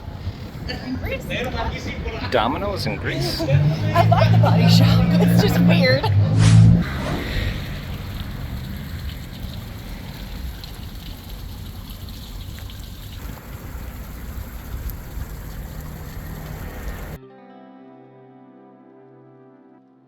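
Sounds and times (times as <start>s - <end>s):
road and wind noise from bus: 0.0s - 17.2s.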